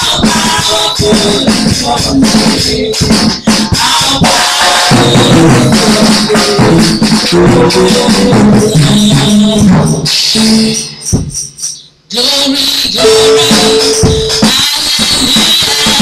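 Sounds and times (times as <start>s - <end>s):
group singing through microphones: 0.0s - 11.3s, 12.1s - 16.0s
drums: 0.0s - 16.0s.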